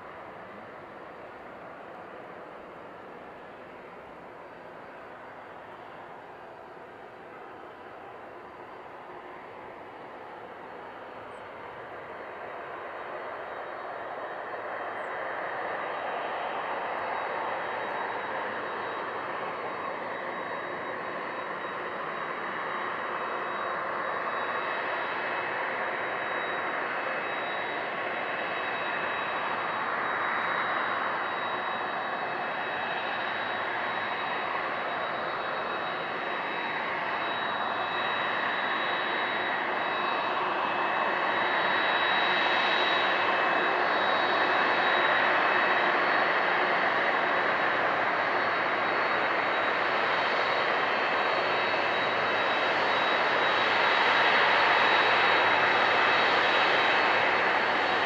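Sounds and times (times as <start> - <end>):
jet engines rushing: 4.6 - 58.0.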